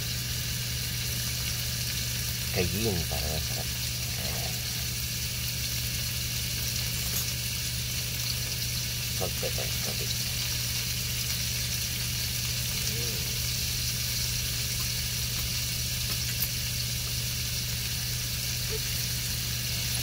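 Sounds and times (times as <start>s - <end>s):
steak sizzling in pan: 0.0s - 20.0s.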